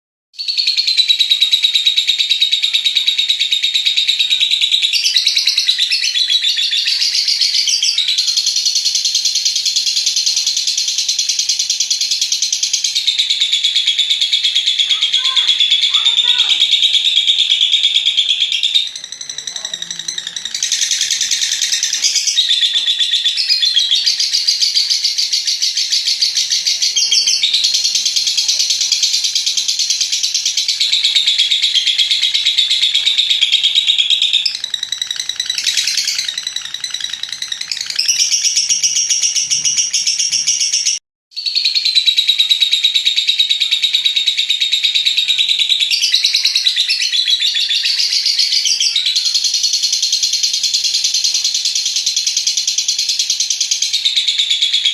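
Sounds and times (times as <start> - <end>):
lovebird chattering trill: 0.4 - 54.9.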